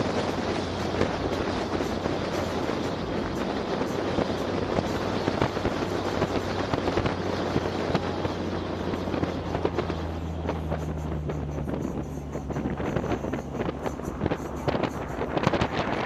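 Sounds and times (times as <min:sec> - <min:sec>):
engine low hum: 0:00.0 - 0:16.0.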